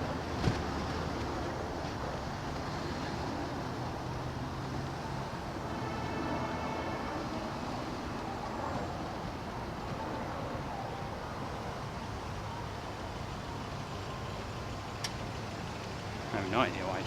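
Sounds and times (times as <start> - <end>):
car engines: 0.0 - 17.0
tyres on road: 0.0 - 17.0.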